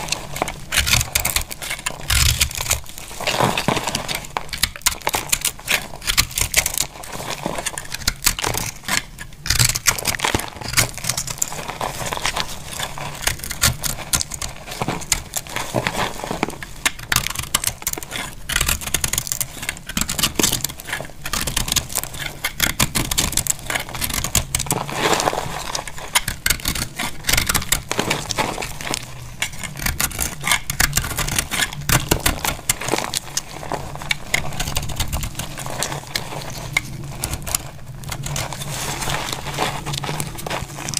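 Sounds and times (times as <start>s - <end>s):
knife cutting dry soap: 0.0s - 38.5s.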